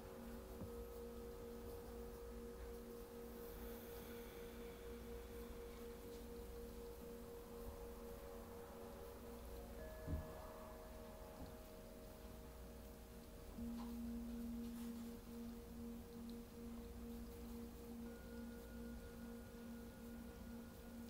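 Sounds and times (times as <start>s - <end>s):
low hum: 0.0s - 21.0s
ringing tones drone: 0.0s - 21.0s.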